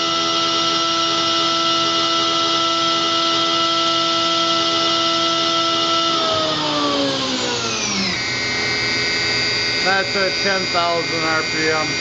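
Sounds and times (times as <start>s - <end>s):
machine spindle high whine: 0.0s - 12.0s.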